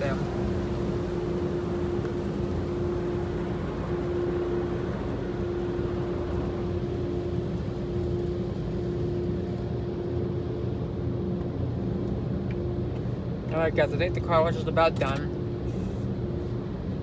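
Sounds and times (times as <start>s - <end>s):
car wash machine hum: 0.0s - 17.0s
constant tone: 0.0s - 17.0s.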